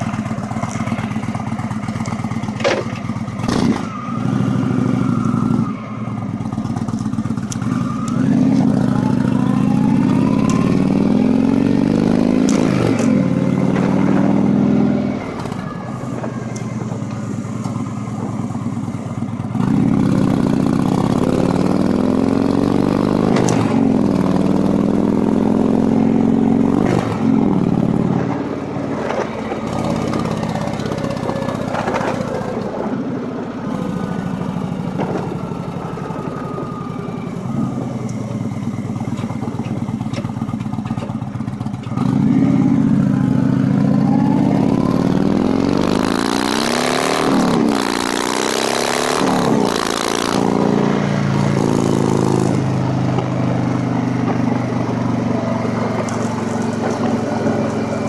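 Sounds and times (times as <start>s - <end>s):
motorcycle exhaust while riding: 0.0s - 58.0s.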